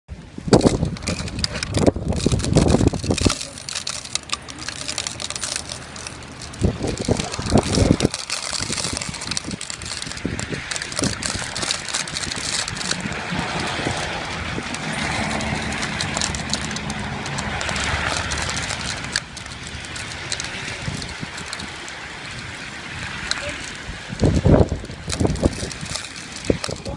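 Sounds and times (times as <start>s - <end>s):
cars passing on wet road: 0.1s - 26.9s
wind on microphone: 0.1s - 26.9s
loud low rumbles: 0.4s - 26.9s.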